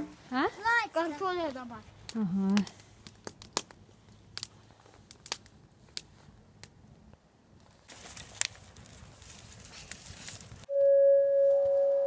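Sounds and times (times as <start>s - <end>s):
campfire crackling and popping: 0.6s - 10.7s.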